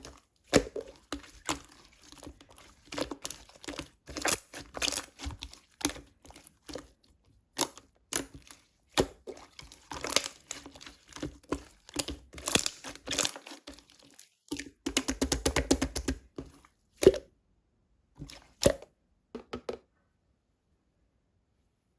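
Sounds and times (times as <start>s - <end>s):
slime squished by hand: 0.0s - 17.3s, 18.2s - 18.8s.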